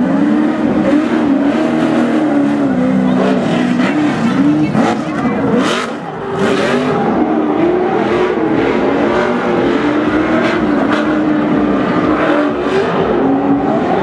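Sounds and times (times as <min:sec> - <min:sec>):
racing truck engines revving: 0:00.0 - 0:14.0.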